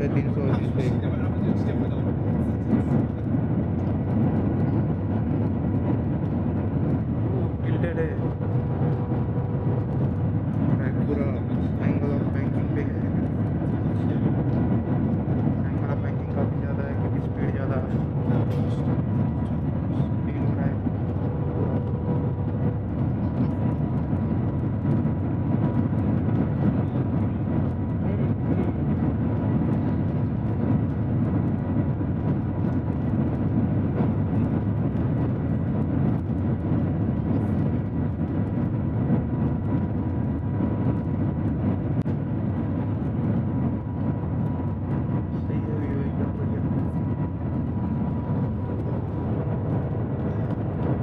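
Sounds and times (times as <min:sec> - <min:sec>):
train cabin low rumble: 0:00.0 - 0:51.0.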